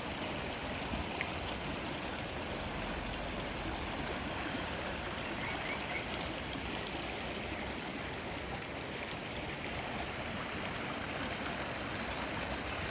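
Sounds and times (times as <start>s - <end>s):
stream water flowing: 0.0s - 12.9s.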